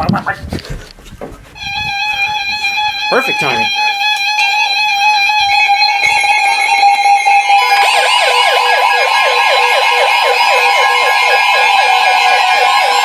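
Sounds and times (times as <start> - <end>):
fast electronic siren yelp: 1.6 - 13.0
steady electronic alarm tone: 1.6 - 13.0.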